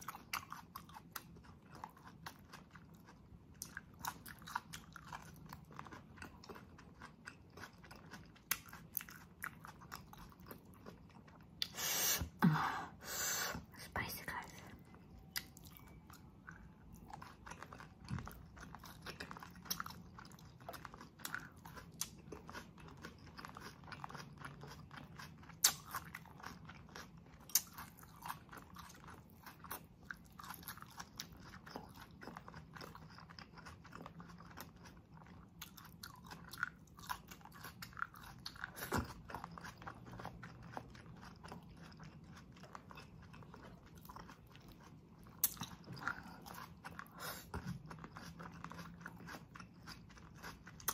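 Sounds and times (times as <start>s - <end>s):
chewing with wet crunching: 0.0s - 11.8s, 14.4s - 50.9s.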